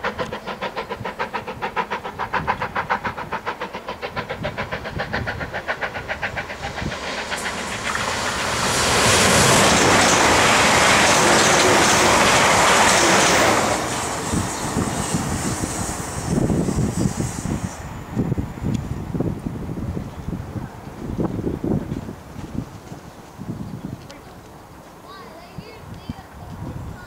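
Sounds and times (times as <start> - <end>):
steam locomotive exhaust beating: 0.0 - 23.4
passenger train rushing past: 0.0 - 25.3.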